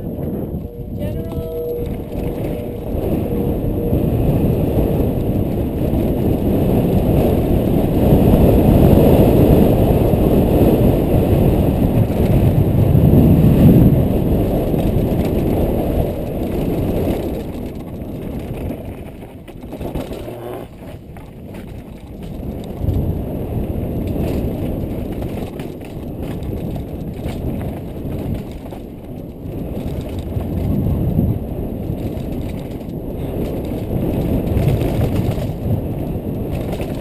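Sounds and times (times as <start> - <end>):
bike tyres rolling over dirt: 0.0 - 37.0
wind on microphone: 0.0 - 37.0.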